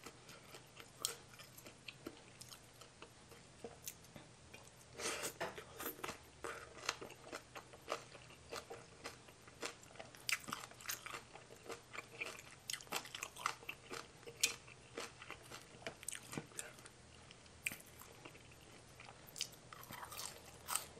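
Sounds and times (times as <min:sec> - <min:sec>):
person chewing crunchy salad: 0:00.0 - 0:20.9.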